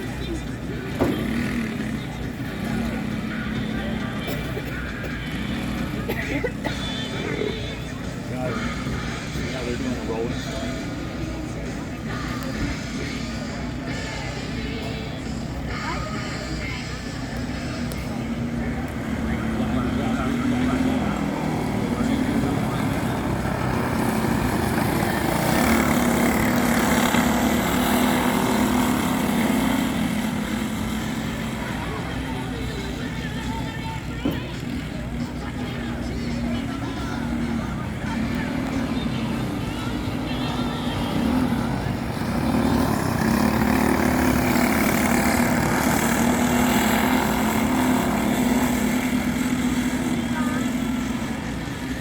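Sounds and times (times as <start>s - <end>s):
go-kart engines passing: 0.0s - 52.0s.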